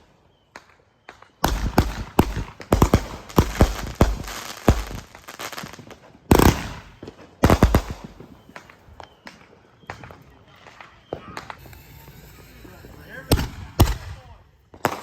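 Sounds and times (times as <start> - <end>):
fireworks bangs and crackle: 0.0 - 15.0.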